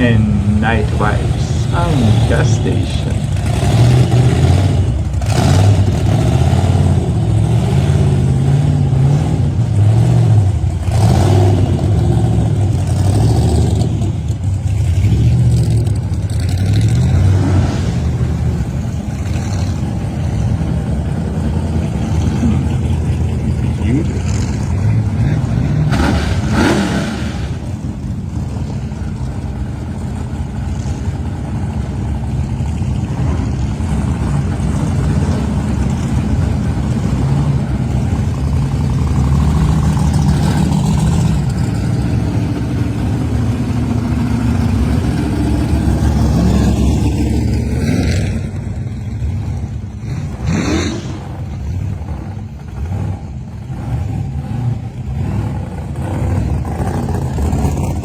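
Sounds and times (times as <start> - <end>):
cars whooshing by: 0.0 - 58.0
muscle car engine revving: 0.0 - 58.0.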